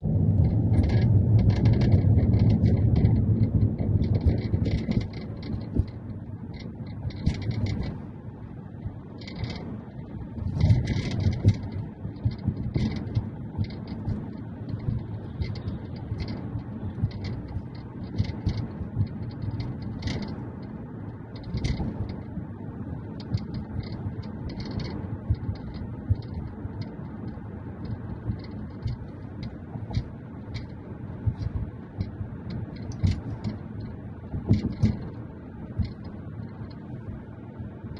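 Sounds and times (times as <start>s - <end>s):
road rumble inside car: 0.0s - 37.9s
buzzy rattle clicks: 0.3s - 8.2s, 8.8s - 37.9s.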